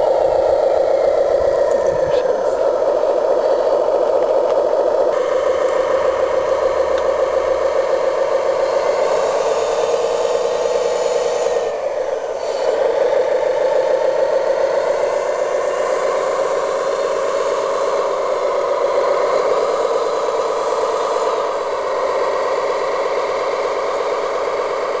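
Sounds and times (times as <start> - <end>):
model wheel loader running: 0.0 - 25.0.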